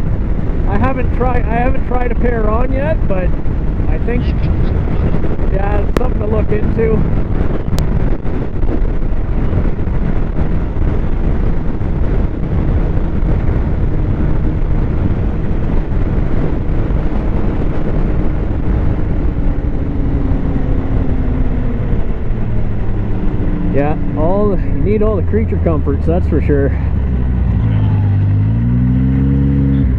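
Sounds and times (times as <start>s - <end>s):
wind rumble on microphone: 0.0s - 29.9s.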